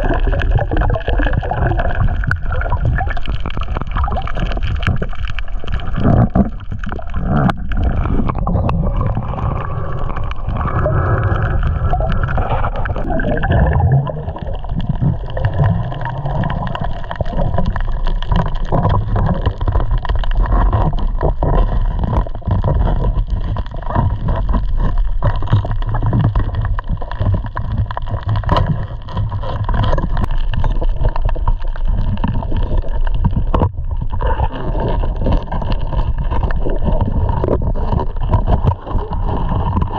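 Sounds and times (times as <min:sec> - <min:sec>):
churning water: 0:00.0 - 0:39.9.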